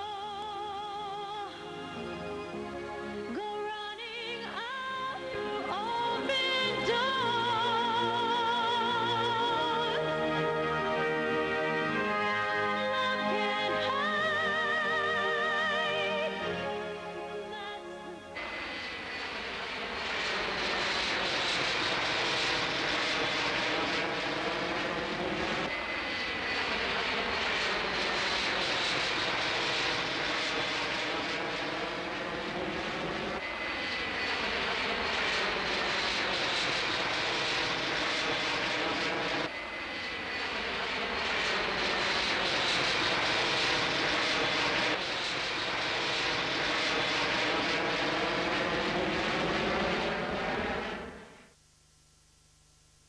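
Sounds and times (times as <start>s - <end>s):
faint high whine: 0.0s - 53.0s
jet engine roar: 4.4s - 51.5s.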